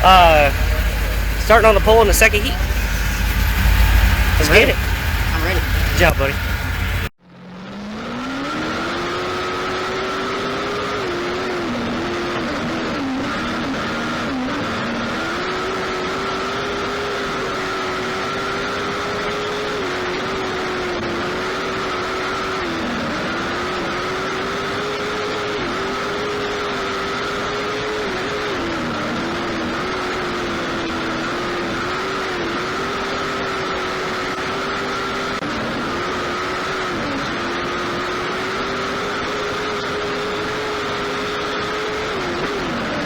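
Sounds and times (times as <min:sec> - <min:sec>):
race car engine at high revs: 0:00.0 - 0:43.0.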